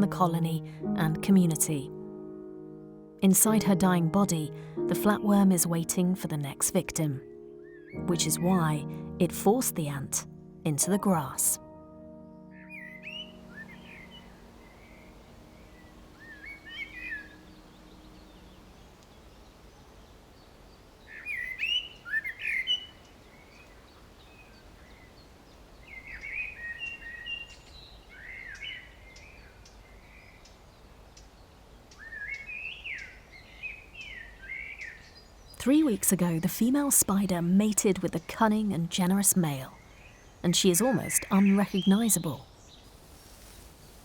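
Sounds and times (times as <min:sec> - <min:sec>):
faint outdoor background: 0:00.0 - 0:44.0
songbird chirping and warbling: 0:00.0 - 0:44.0.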